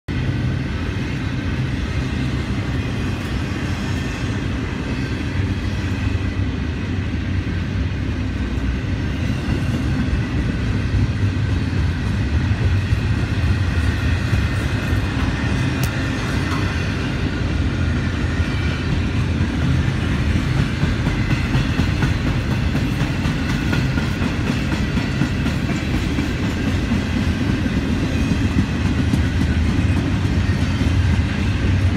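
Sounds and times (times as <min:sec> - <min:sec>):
freight train rumbling past: 0:00.1 - 0:31.9.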